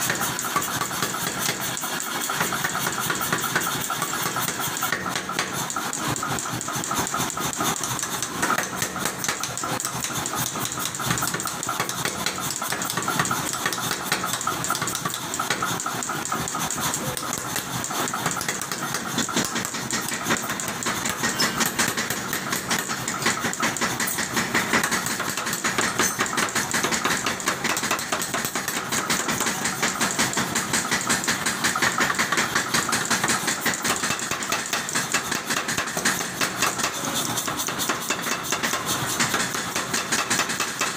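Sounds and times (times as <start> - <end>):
power hammer pounding hot metal: 0.0 - 40.9.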